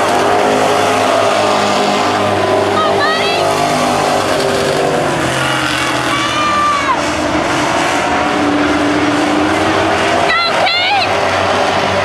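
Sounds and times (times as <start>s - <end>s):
high tone gliding downward: 0.0s - 11.2s
race car engines droning: 0.0s - 12.0s.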